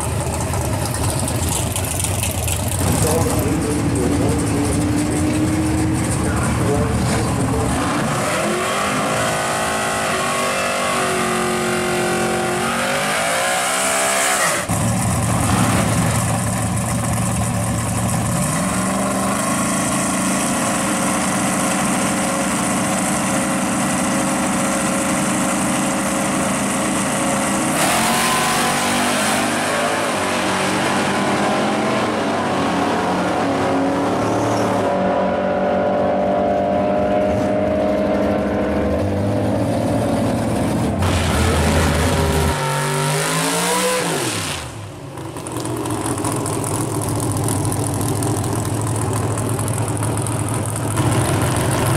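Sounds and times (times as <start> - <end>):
cars accelerating away: 0.0 - 16.4, 25.2 - 51.9
drag car engine revving: 0.0 - 51.9
engines running steadily: 0.0 - 51.9.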